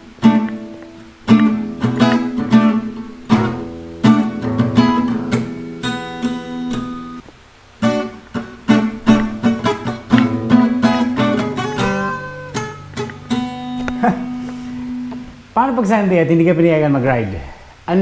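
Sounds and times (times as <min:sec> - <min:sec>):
acoustic guitar strumming: 0:00.0 - 0:07.2, 0:07.8 - 0:15.5.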